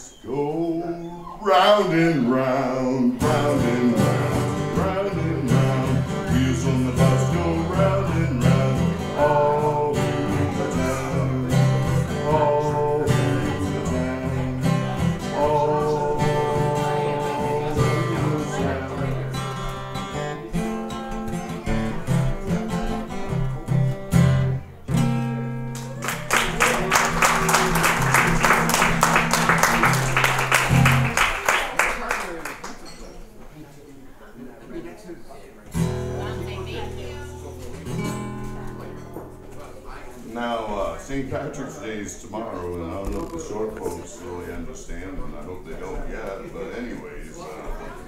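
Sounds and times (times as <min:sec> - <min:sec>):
strummed acoustic guitar: 0:01.4 - 0:26.0, 0:26.8 - 0:31.2, 0:35.7 - 0:45.5.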